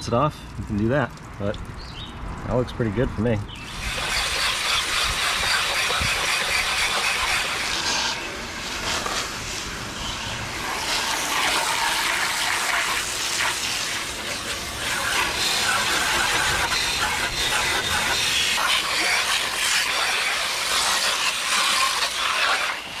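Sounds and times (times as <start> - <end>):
hose nozzle spraying water: 3.5 - 23.0.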